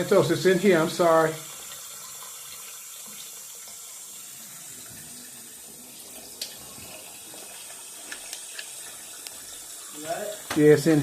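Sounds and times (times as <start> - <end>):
faucet water rushing: 0.0 - 11.0.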